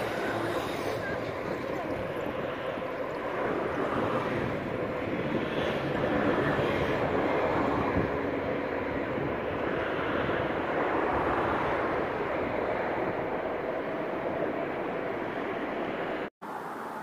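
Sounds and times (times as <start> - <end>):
train rumbling across bridge: 0.0 - 16.3.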